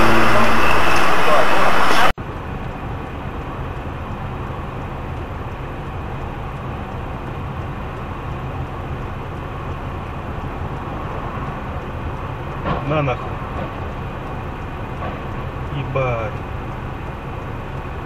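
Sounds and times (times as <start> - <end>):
car engine idling: 0.0 - 18.0
traffic passing: 0.0 - 18.0.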